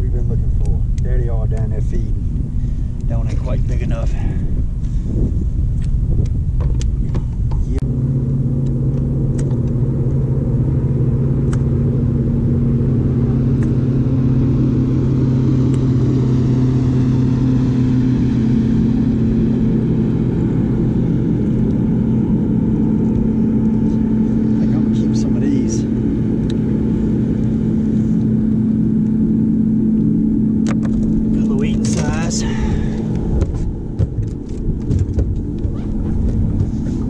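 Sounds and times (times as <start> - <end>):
low rumble: 0.0 - 37.0
steady motor hum: 0.0 - 37.0.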